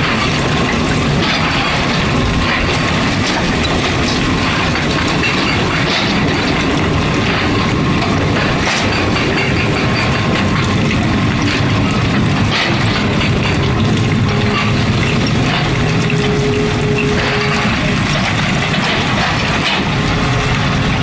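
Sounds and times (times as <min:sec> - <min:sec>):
diesel engine: 0:00.0 - 0:21.0
hydraulic breaker hammering: 0:00.0 - 0:21.0.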